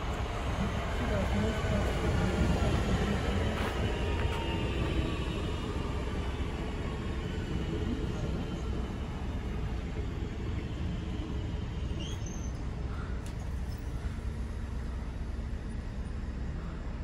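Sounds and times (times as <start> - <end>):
train low rumble and hum: 0.0 - 17.0.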